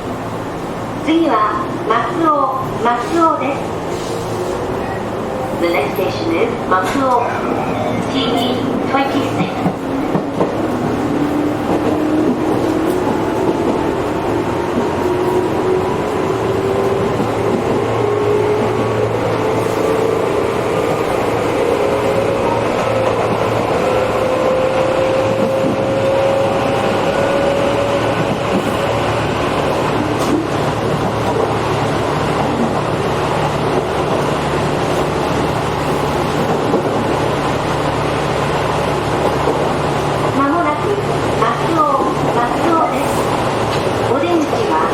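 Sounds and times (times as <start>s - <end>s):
wheels rumbling on rails: 0.0s - 44.9s.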